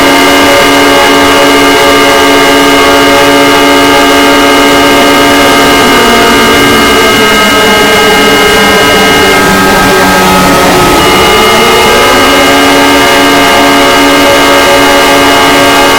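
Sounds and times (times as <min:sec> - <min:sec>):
constant noise: 0:00.0 - 0:15.9
electronic alarm tones: 0:00.0 - 0:15.9.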